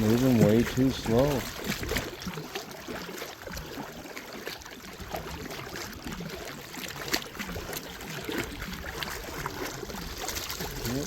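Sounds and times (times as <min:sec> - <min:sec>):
paddle strokes in water: 0:00.0 - 0:11.0
water trickling and splashing: 0:00.0 - 0:11.0.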